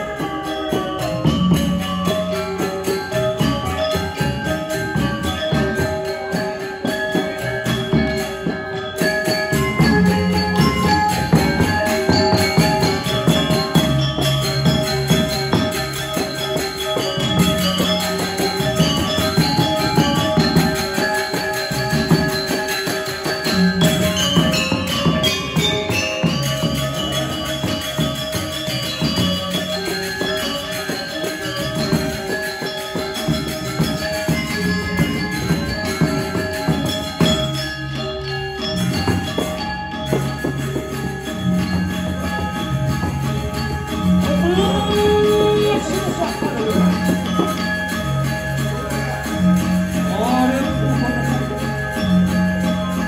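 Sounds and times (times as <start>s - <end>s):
metallophones ringing: 0.0s - 53.0s.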